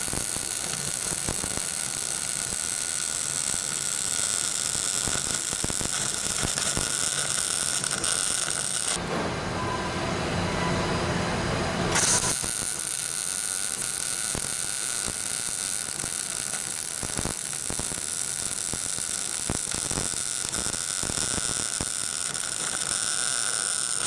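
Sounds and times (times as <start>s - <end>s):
welder arc hissing and crackling: 0.0s - 9.0s, 11.9s - 24.0s.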